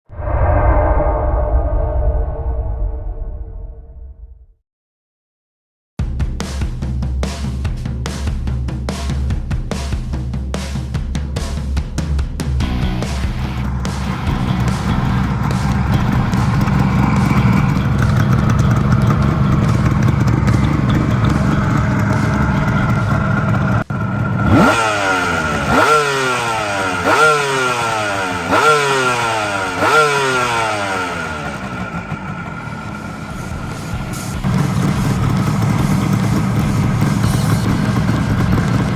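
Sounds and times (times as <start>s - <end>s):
two-stroke engine idling and revving: 6.0s - 38.9s.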